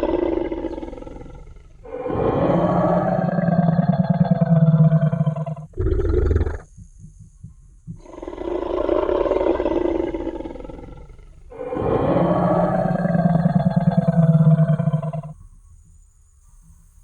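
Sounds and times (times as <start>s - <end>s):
dinosaur roar: 0.0s - 6.7s, 7.9s - 15.4s
low pulsing rumble: 0.0s - 15.3s.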